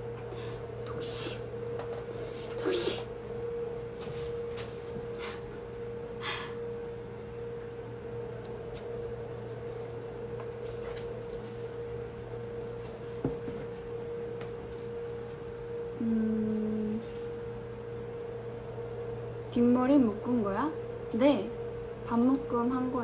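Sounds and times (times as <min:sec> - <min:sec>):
steady electrical hum: 0:00.0 - 0:23.0.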